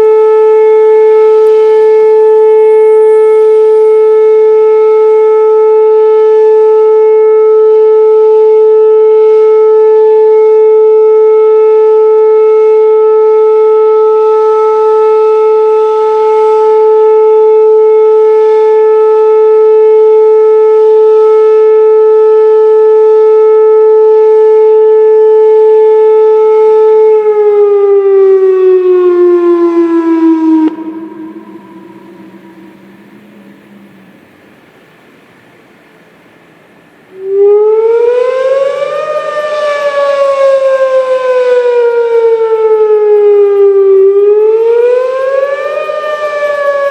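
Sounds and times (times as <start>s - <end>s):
warning siren alert tone: 0.0s - 35.0s, 37.1s - 46.9s.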